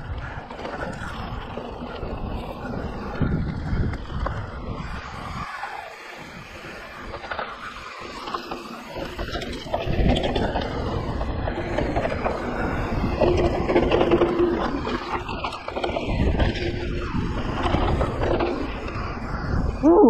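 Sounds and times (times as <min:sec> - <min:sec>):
bike chain and frame rattling: 0:00.0 - 0:19.9
wind buffeting microphone: 0:00.0 - 0:20.0.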